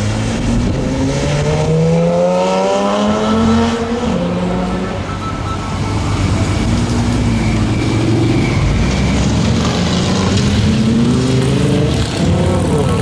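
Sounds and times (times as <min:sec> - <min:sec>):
car engine accelerating: 0:00.0 - 0:05.1, 0:06.2 - 0:13.0.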